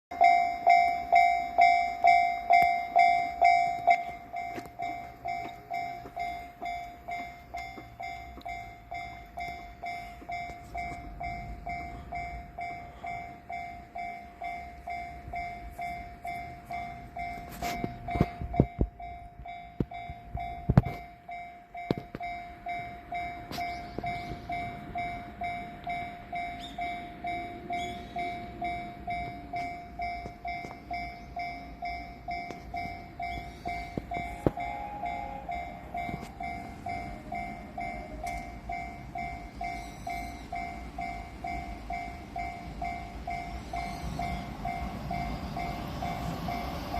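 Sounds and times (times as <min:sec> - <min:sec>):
level crossing warning bell: 0:00.1 - 0:46.9.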